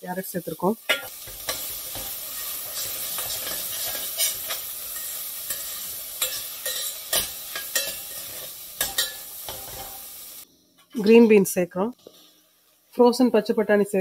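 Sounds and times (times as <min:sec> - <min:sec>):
vegetables sizzling: 0:00.0 - 0:14.0.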